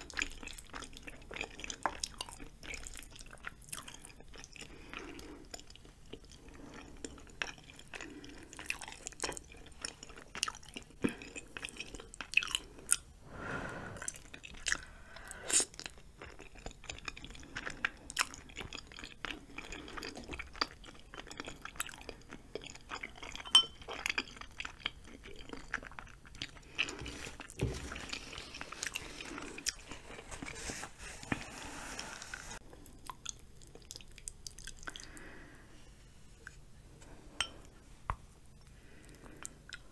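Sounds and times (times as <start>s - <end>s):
close-miked chewing noodles: 0.0s - 13.1s, 14.0s - 35.6s.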